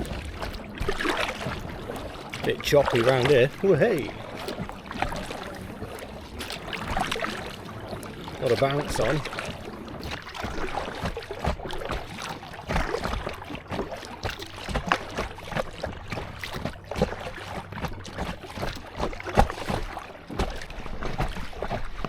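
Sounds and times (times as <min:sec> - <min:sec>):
water slapping against kayak hull: 0:00.0 - 0:22.0.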